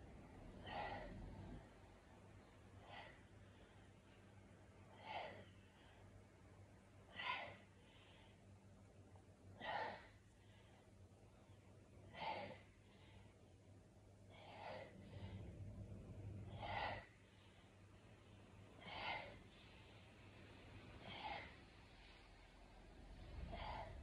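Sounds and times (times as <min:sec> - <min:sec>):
woman breathing hard: 0:00.0 - 0:01.8, 0:02.4 - 0:24.0.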